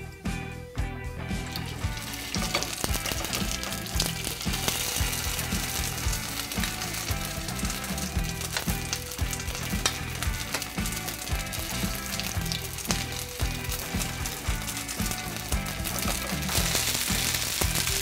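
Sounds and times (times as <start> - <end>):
croquettes frying in oil: 1.5 - 18.0.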